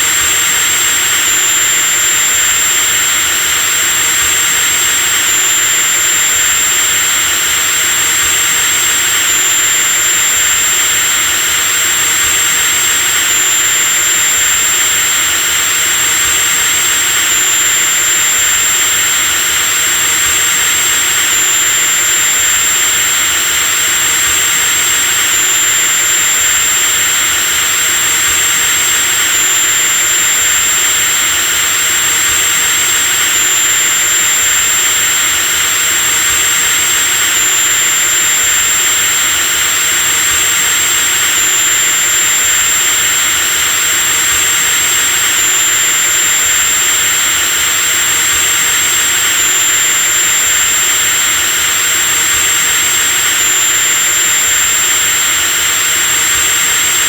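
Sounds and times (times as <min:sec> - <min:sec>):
electric drill whining: 0:00.0 - 0:57.0.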